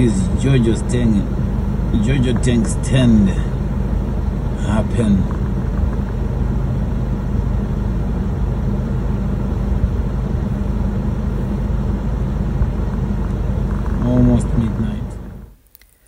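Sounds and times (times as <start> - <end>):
engine idling: 0.0 - 15.6.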